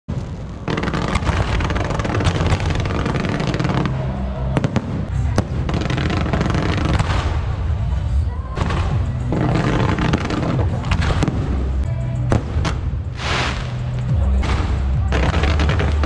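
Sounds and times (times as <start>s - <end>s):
fireworks crackling and popping: 0.1s - 16.0s
sharp fireworks cracks: 0.1s - 16.0s.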